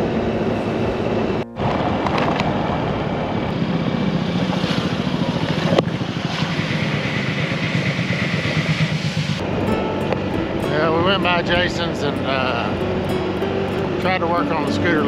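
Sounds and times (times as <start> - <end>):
scooter engine running: 0.0 - 15.0.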